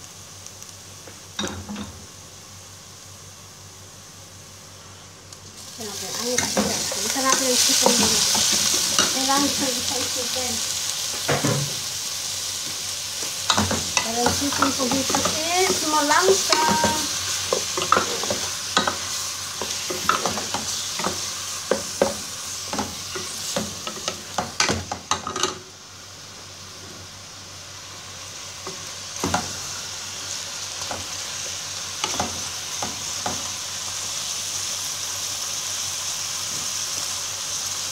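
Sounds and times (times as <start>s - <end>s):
chicken sizzling in hot oil: 5.5s - 37.9s.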